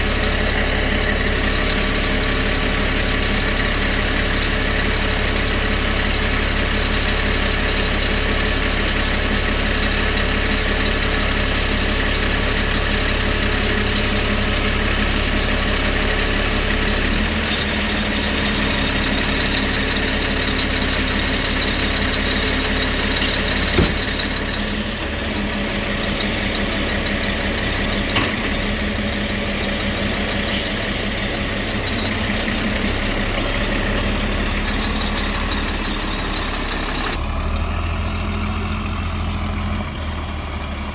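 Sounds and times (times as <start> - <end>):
heavy truck engine running: 0.0 - 40.9.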